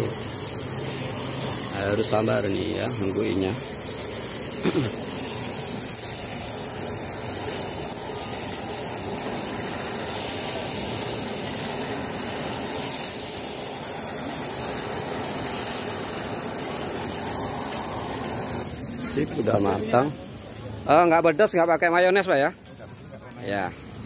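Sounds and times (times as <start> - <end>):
gas torch flame hissing: 0.0 - 24.0.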